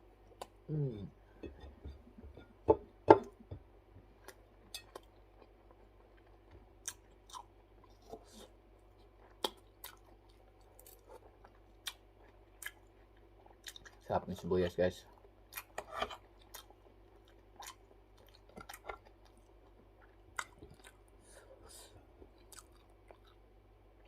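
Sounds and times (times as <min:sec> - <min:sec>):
person chewing food: 0:00.2 - 0:14.0, 0:15.1 - 0:24.0.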